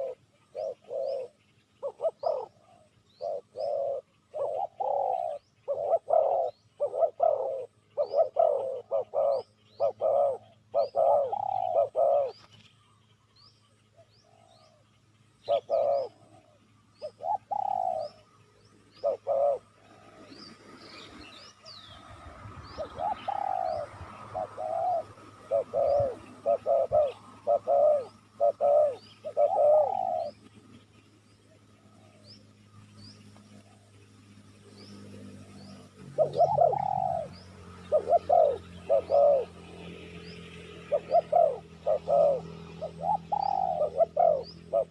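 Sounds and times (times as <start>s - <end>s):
dove cooing: 0.0s - 12.5s, 13.9s - 21.8s, 22.6s - 32.4s, 34.8s - 44.9s
small bird chirping: 0.0s - 44.9s.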